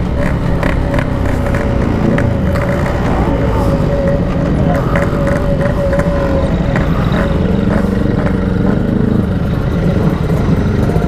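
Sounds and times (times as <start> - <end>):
motorcycle engine running: 0.0 - 11.0
road traffic: 0.0 - 11.0.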